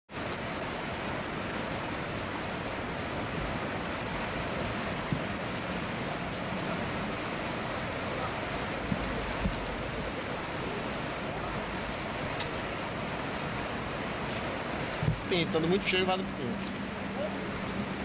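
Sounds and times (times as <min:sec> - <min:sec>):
flowing water: 0:00.1 - 0:18.0.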